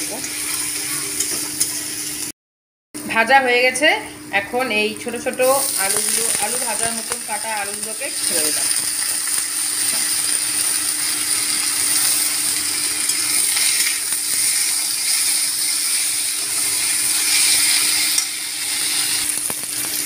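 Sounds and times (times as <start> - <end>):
potatoes sizzling in hot oil: 0.0 - 2.3, 4.6 - 20.0.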